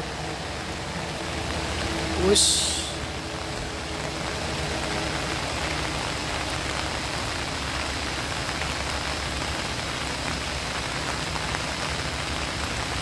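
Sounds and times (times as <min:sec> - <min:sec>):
faint truck engine drone: 0:00.0 - 0:13.0
rain hissing: 0:00.0 - 0:13.0.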